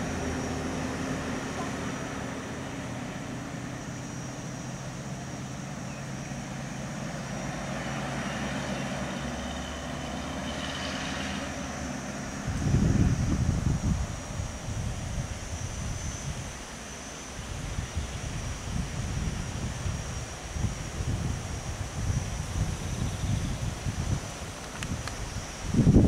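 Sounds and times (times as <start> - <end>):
vehicle engines idling: 0.0 - 25.9.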